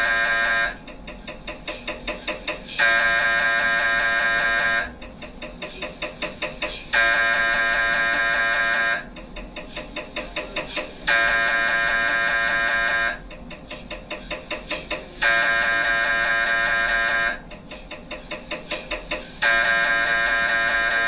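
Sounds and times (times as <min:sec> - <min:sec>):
loud steady buzzing tone: 0:00.0 - 0:21.0
rapid knocking: 0:00.5 - 0:07.6, 0:09.0 - 0:21.0.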